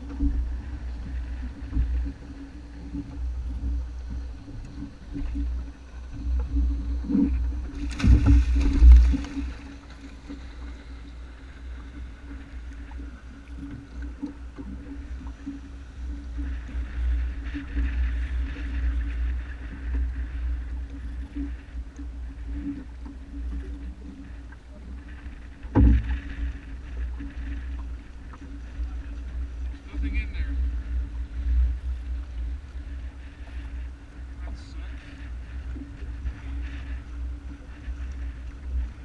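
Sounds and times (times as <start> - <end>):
watercraft engine running: 0.0 - 39.0
wind and water noise: 0.0 - 39.0.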